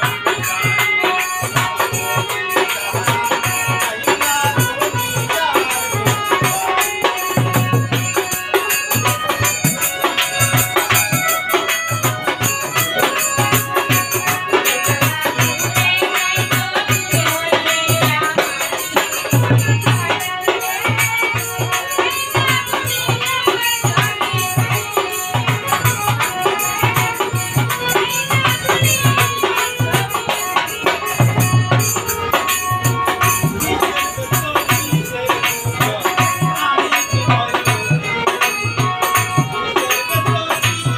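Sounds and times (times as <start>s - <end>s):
hand drum beat: 0.0s - 40.9s
small percussion rattling: 0.0s - 40.9s.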